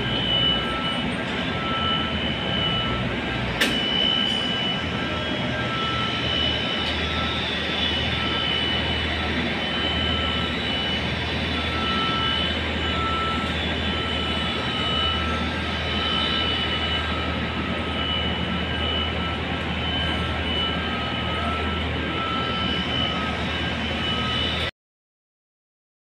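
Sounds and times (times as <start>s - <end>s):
high-pitched whine: 0.0s - 24.7s
industrial machinery roar: 0.0s - 24.7s.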